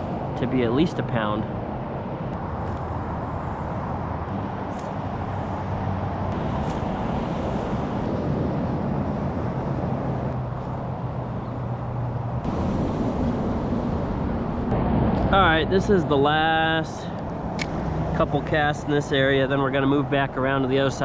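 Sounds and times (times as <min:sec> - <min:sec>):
freeway traffic drone: 0:00.0 - 0:21.0.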